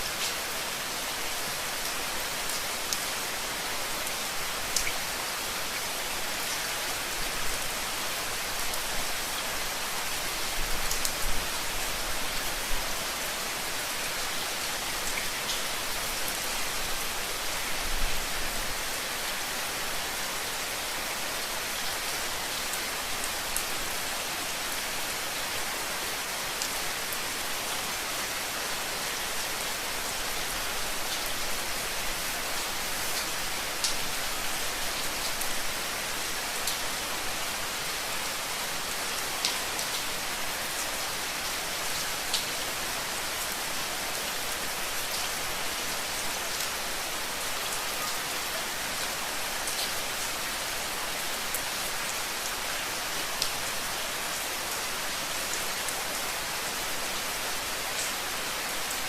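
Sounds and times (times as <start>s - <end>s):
rain on hard surface: 0.0s - 59.0s.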